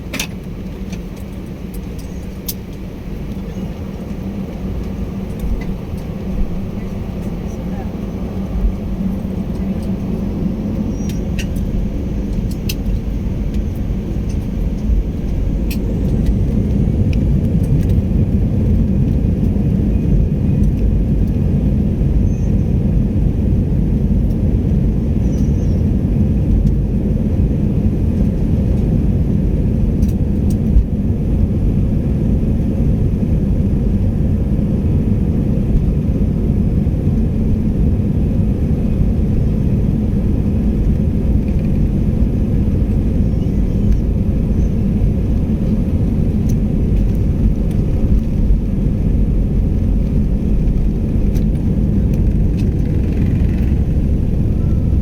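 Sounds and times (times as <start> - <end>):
airliner engine rumble in cabin: 0.0 - 55.0.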